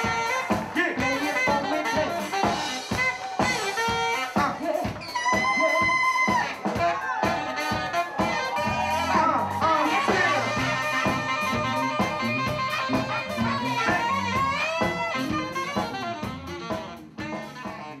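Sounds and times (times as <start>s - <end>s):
band music with saxophone: 0.0s - 18.0s
drum kit: 0.0s - 18.0s.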